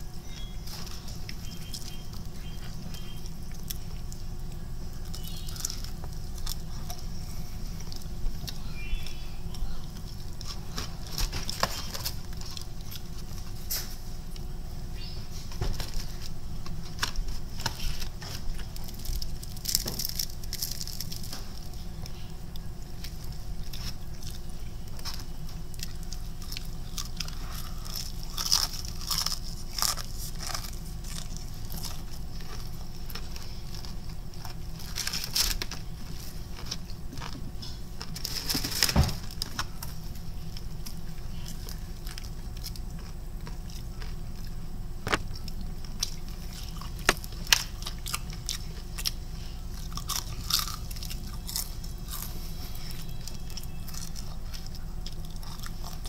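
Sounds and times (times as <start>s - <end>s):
chewing crunchy fried chicken: 0.0s - 56.0s
low background hum: 0.0s - 56.0s.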